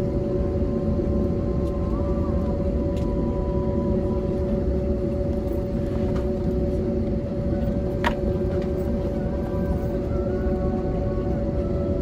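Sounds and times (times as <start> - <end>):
aircraft cabin hum: 0.0 - 12.0
jet engines idling: 0.0 - 12.0.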